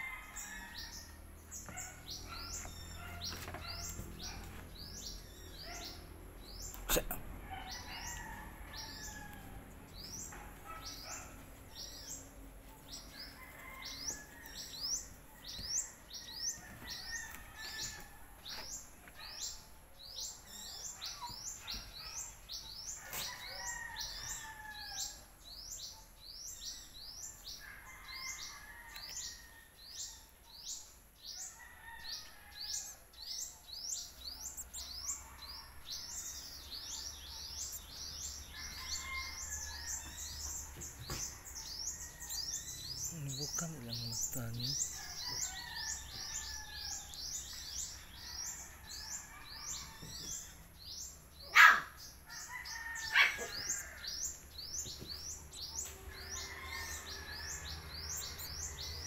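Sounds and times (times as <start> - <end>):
small birds chirping: 0.0 - 32.0, 32.7 - 59.0.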